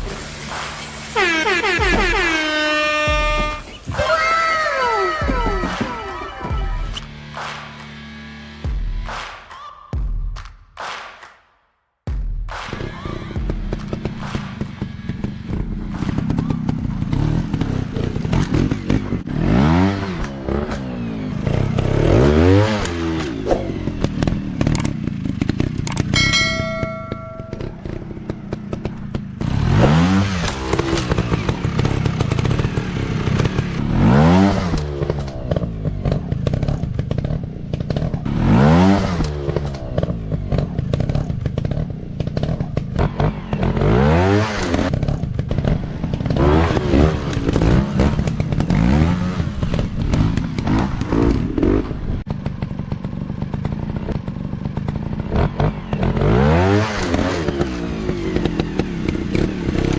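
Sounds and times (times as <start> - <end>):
motorcycle engine revving: 0.0 - 9.1, 12.7 - 59.9.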